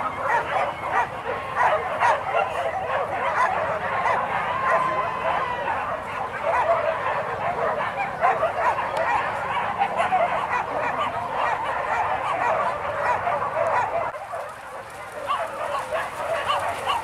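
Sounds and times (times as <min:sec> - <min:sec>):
dogs yelping and barking: 0:00.0 - 0:17.0.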